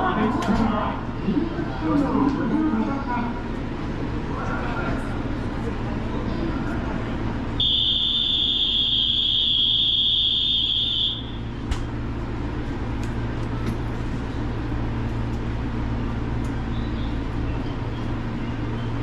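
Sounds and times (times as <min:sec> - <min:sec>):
low hum of electric trains: 0:00.0 - 0:19.0.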